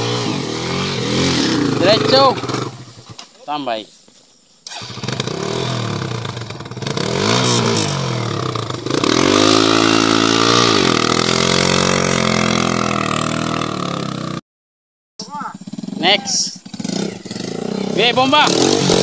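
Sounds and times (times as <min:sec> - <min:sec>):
dirt bike engine revving: 0:00.0 - 0:03.3, 0:04.6 - 0:14.4, 0:15.5 - 0:19.0.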